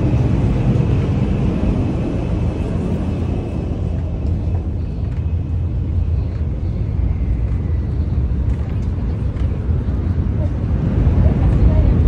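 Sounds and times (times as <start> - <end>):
train running low rumble: 0.0 - 12.0.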